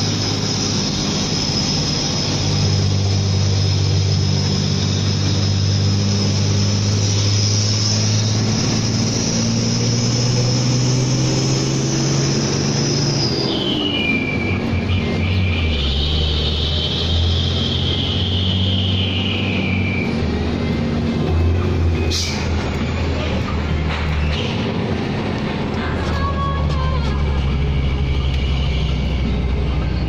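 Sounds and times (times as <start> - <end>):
diesel truck engine pulling hard: 0.0 - 30.0
high turbo whine: 0.0 - 30.0.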